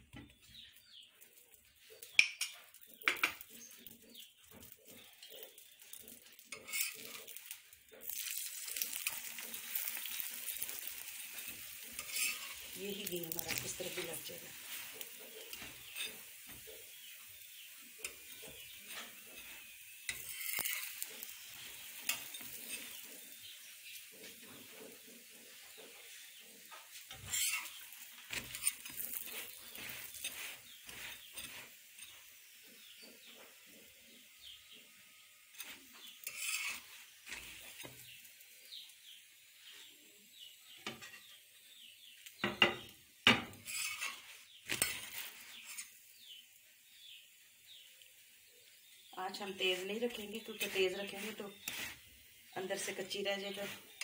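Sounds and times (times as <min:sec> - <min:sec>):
flatbread sizzling in a pan: 0:00.0 - 0:54.0
metal spatula scraping a pan: 0:01.7 - 0:47.2, 0:48.9 - 0:54.0.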